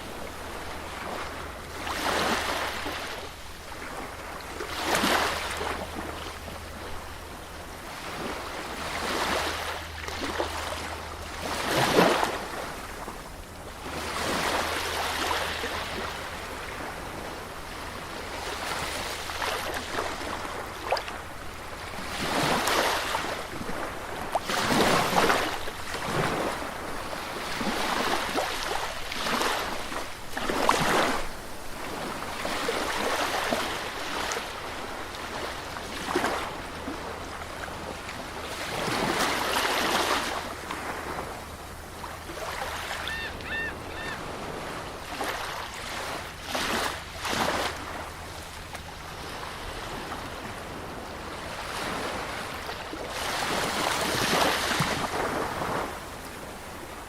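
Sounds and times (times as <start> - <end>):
surf waves breaking on beach: 0.0 - 57.0.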